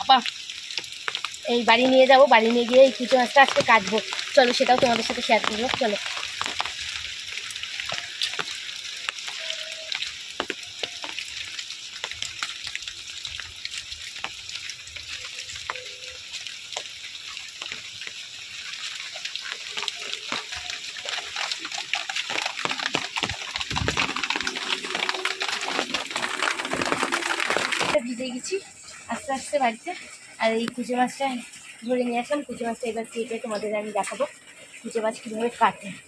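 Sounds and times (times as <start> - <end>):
steady rain pattering: 0.0 - 36.0.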